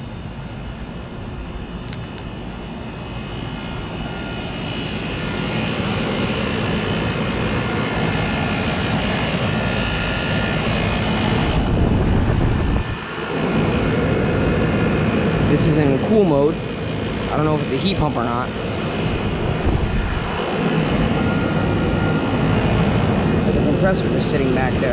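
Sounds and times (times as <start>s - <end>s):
air conditioner compressor and fan drone: 0.0s - 24.9s.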